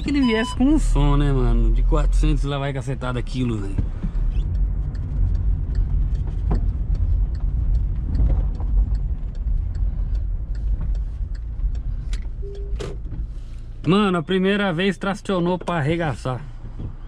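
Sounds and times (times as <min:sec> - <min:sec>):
even ticking: 0:00.0 - 0:16.3
engine and road rumble: 0:00.0 - 0:17.0.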